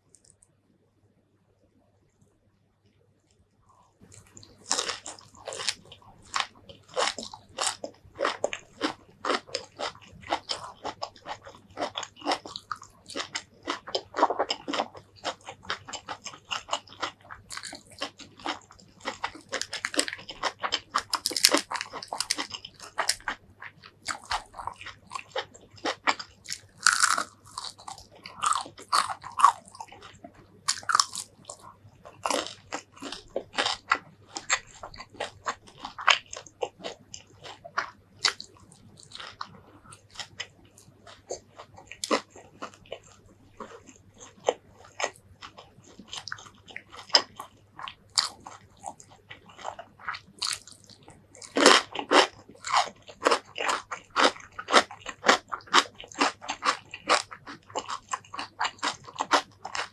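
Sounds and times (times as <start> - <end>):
faint steady hum: 0.0 - 59.9
person chewing and crunching: 3.6 - 59.9.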